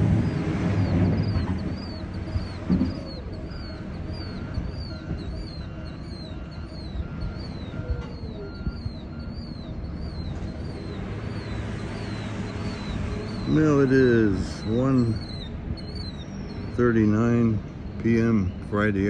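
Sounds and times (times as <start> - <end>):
bird chirping: 0.0 - 19.0
diesel locomotive rumble: 0.0 - 19.0.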